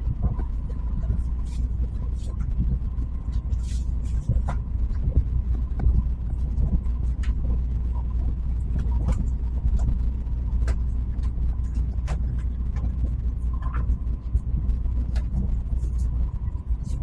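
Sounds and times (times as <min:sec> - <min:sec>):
train rumble inside cabin: 0:00.0 - 0:17.0.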